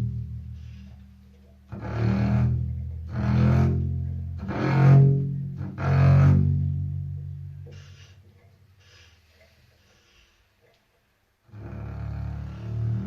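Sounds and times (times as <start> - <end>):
double bass bow strokes: 0.0 - 9.1, 11.5 - 13.0.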